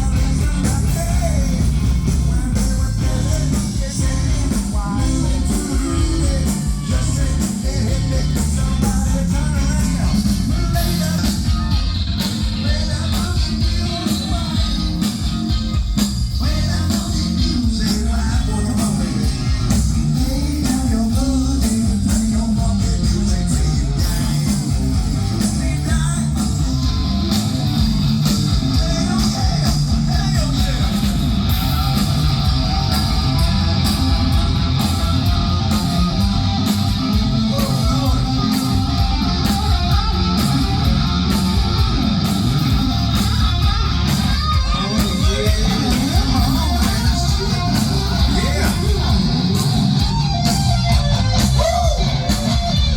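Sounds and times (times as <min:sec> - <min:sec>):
live rock band with singing: 0:00.0 - 0:52.9.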